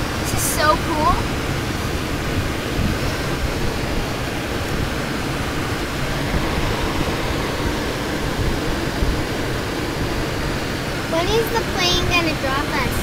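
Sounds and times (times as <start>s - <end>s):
airflow rushing in cockpit: 0.0s - 13.0s.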